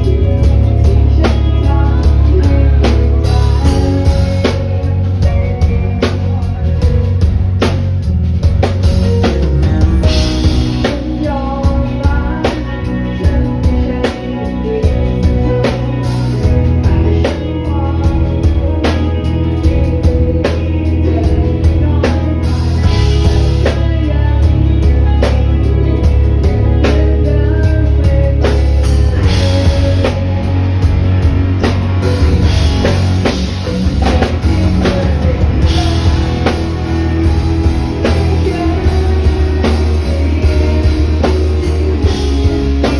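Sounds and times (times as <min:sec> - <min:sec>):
drum kit steady beat: 0:00.0 - 0:42.9
electric guitar: 0:00.0 - 0:42.9
heavy bass: 0:00.0 - 0:42.9.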